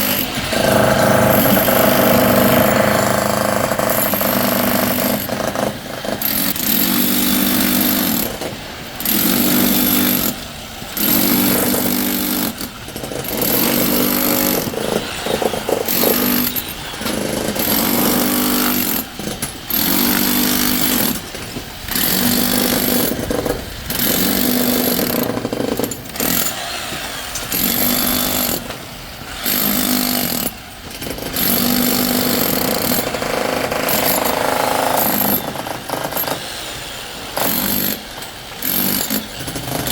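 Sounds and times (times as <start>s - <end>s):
jackhammer running: 0.0s - 10.4s, 11.0s - 26.6s, 27.5s - 28.7s, 29.4s - 36.4s, 37.4s - 39.9s.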